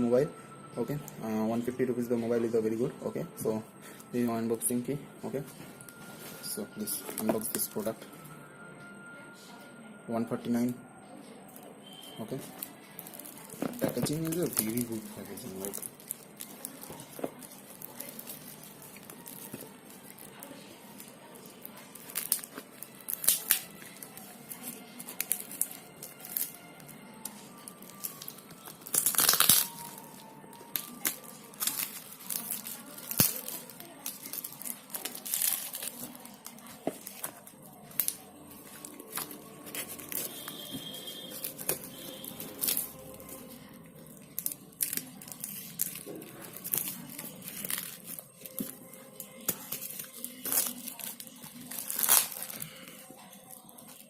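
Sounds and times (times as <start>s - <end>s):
packaging crinkling and tearing: 5.8s - 8.2s, 11.6s - 54.0s.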